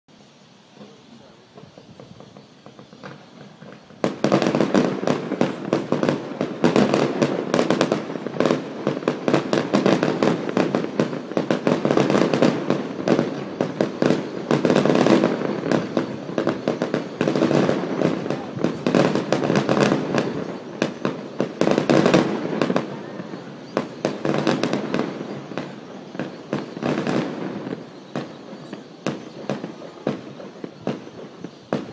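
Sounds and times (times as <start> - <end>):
fireworks bangs and crackles: 0.1 - 31.9.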